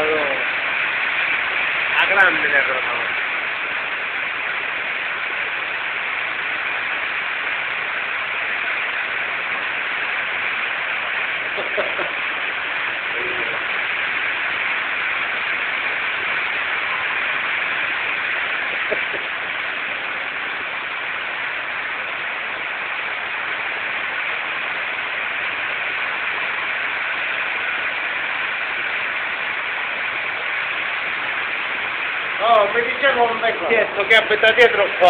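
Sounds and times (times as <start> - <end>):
floodwater rushing: 0.0 - 35.0
rain: 0.0 - 35.0.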